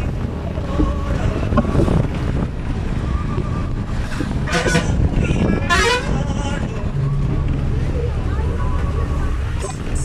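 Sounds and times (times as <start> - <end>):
vehicle driving rumble: 0.0 - 10.0
wind buffeting microphone: 0.0 - 10.0.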